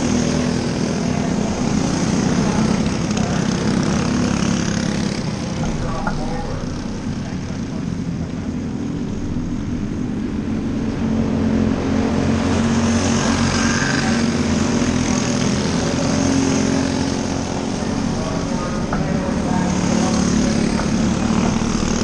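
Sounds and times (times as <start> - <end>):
racing car engines droning: 0.0 - 22.0.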